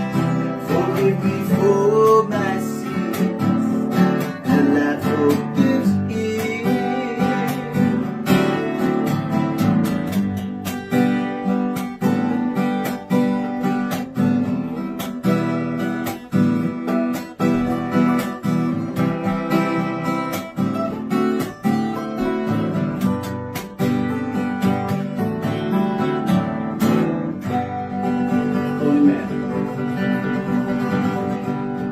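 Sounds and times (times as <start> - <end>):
strummed acoustic guitar: 0.0 - 31.9.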